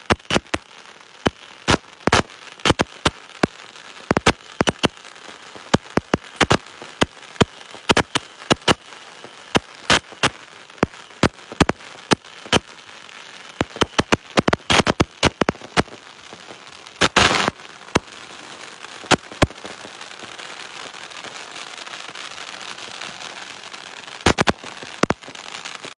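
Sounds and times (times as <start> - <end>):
firecrackers banging: 0.0 - 5.0, 5.6 - 12.6, 13.6 - 26.0
steady hiss: 0.0 - 26.0.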